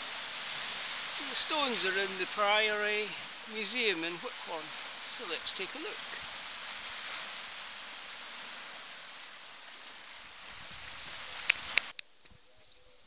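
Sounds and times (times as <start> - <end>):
small waves washing onto beach: 0.0 - 12.0.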